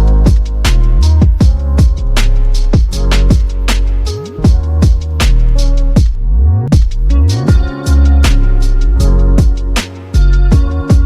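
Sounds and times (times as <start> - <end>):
deep bass drum hits: 0.0 - 11.0
sharp percussion: 0.0 - 11.0
sustained bass notes: 0.0 - 11.0.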